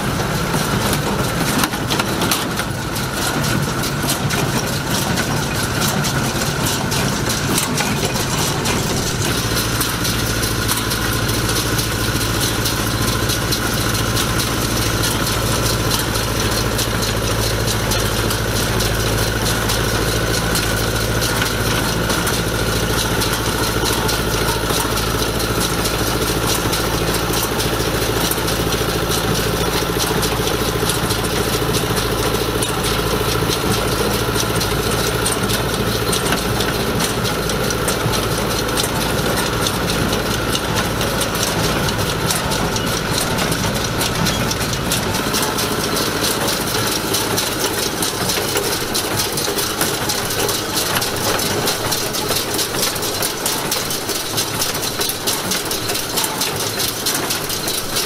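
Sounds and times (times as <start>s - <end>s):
tractor diesel engine running: 0.0s - 58.0s
baler mechanism clattering: 0.6s - 58.0s.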